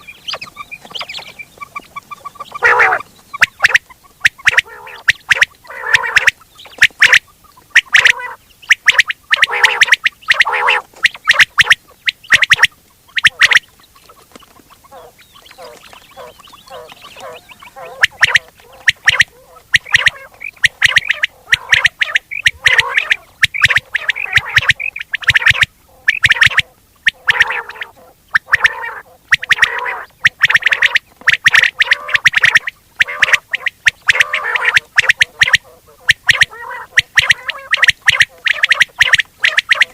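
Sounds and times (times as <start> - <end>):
quail calling sharp notes: 0.0 - 39.9.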